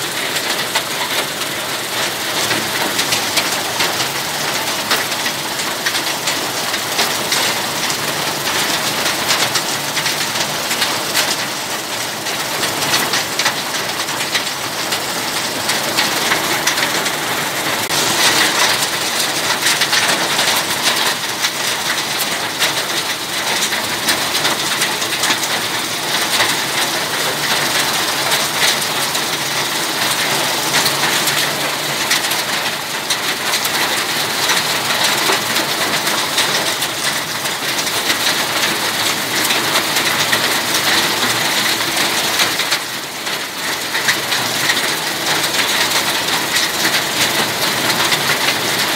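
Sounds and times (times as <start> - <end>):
hailstones pattering on wet concrete: 0.0 - 48.9.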